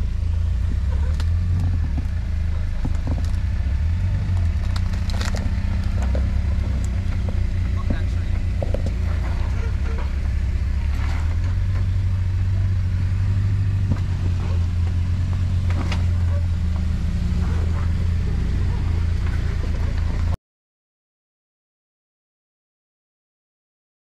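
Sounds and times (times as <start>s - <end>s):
car engine running at low revs: 0.0s - 20.4s.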